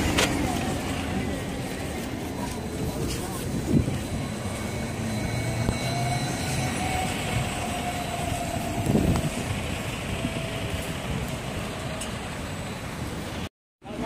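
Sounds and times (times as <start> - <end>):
faint engine whine: 0.0 - 13.5
bus engine rumbling: 0.0 - 14.0.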